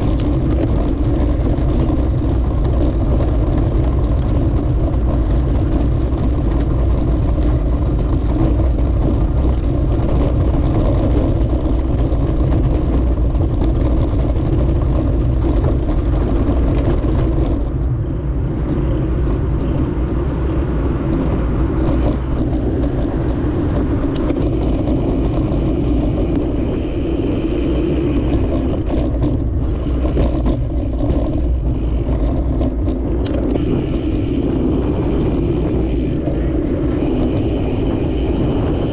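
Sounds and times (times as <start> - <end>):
car traffic: 0.0 - 38.9
wind and road noise: 0.0 - 38.9.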